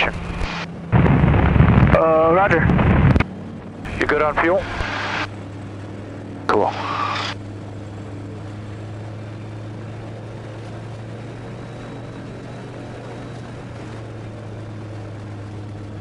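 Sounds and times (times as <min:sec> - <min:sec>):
aircraft engine idling: 0:00.0 - 0:16.0.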